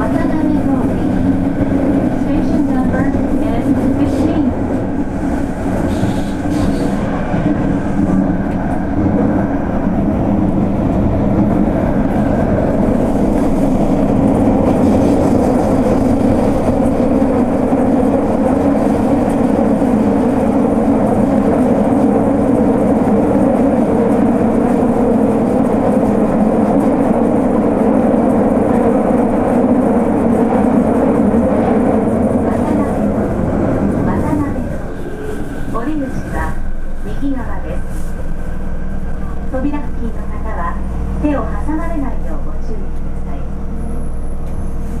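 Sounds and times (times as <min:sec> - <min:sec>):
train rumbling through a tunnel: 0:00.0 - 0:45.0.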